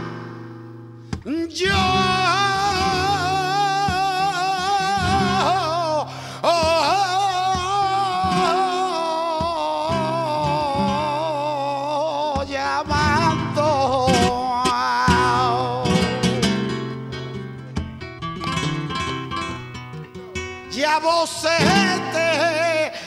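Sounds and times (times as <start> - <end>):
flamenco guitar: 0.0 - 23.0
man singing flamenco: 1.1 - 23.0.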